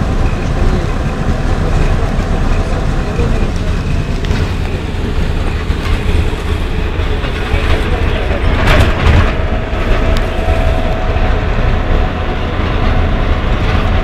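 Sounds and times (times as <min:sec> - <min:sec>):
bus body rattling: 0:00.0 - 0:14.0
bus engine and road rumble: 0:00.0 - 0:14.0.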